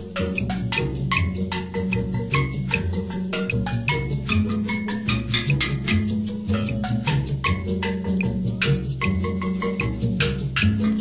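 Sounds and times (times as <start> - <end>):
bass: 0.0 - 11.0
shaker rhythm: 0.0 - 11.0
steel pans playing: 0.0 - 11.0.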